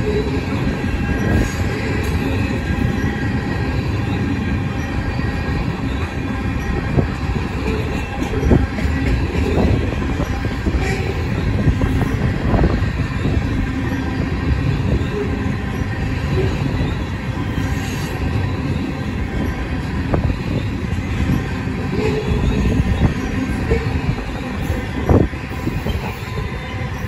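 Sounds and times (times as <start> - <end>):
freight train wheels rumbling on rail: 0.0 - 27.0.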